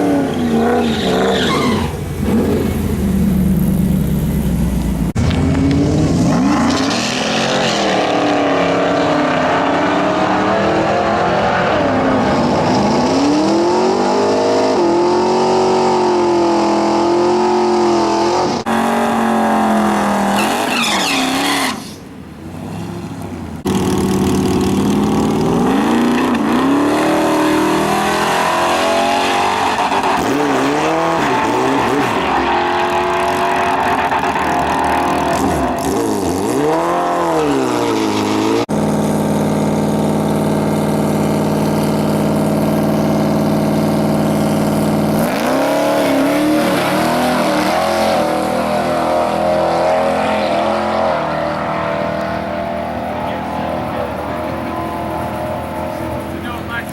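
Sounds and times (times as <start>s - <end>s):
engines revving and accelerating: 5.1s - 56.9s.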